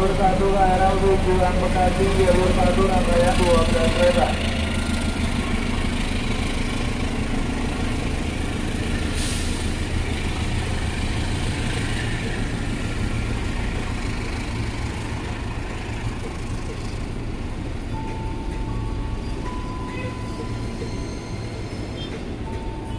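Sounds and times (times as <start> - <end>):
locomotive engine drone: 0.0 - 22.9.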